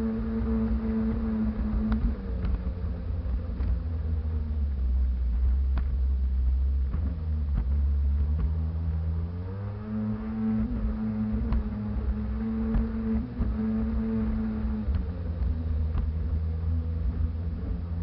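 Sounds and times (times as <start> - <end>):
heavy low rumble: 0.0 - 18.0.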